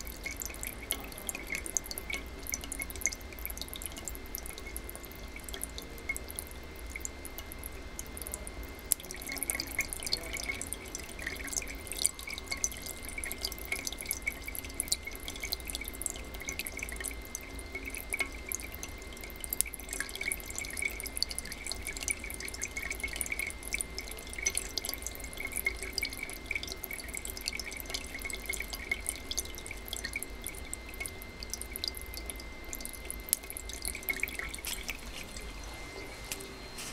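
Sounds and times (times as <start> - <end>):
water dripping into tin cans: 0.0 - 36.9.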